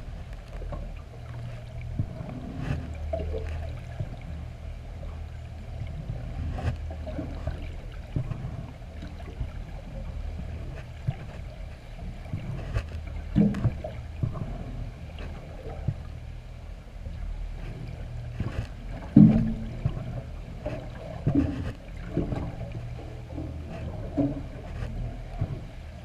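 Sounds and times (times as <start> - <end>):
underwater knocks and thumps: 0.0 - 16.3, 17.0 - 26.0
underwater low rumble: 0.0 - 26.0.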